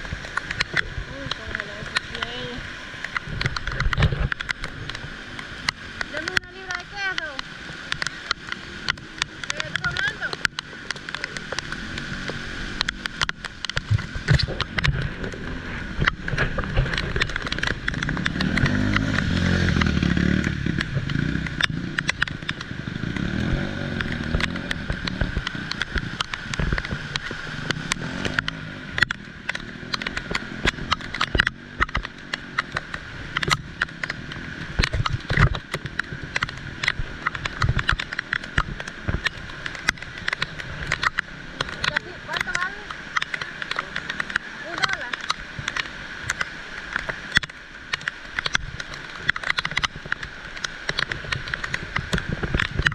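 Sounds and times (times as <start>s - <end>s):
motor vehicle passing: 0.0s - 47.6s
heavy rain: 0.0s - 52.9s.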